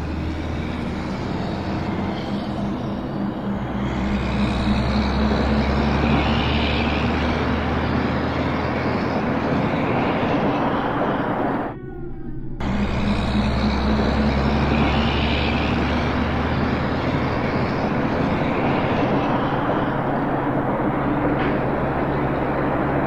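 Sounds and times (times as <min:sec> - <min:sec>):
vehicle engine rumble: 0:00.0 - 0:11.8, 0:12.4 - 0:23.0.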